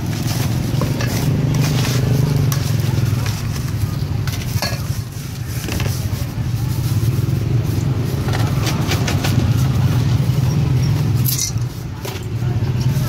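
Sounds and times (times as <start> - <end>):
utensils scraping steel bowl: 0.0 - 13.0.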